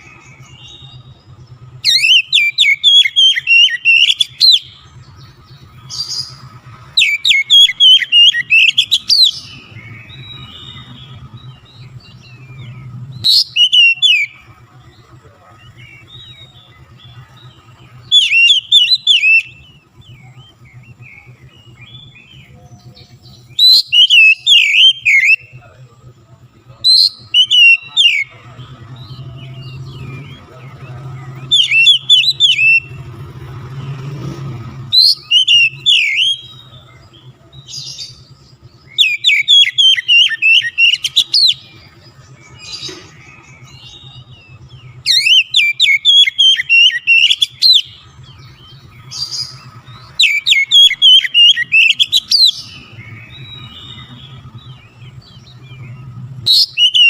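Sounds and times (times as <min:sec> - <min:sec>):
bird singing chirping whistles: 0:00.0 - 0:57.0.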